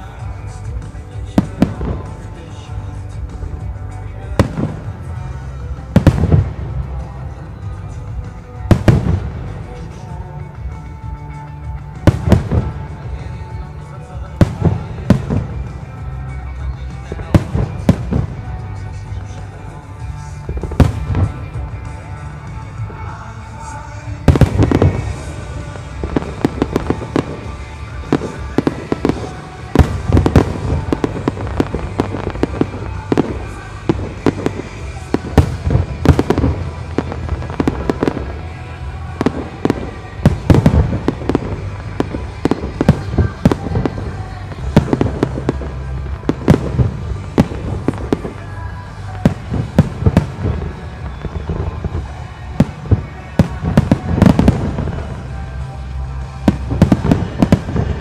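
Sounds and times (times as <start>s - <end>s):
fireworks bursting and banging: 0.0s - 58.0s
music playing: 0.0s - 58.0s.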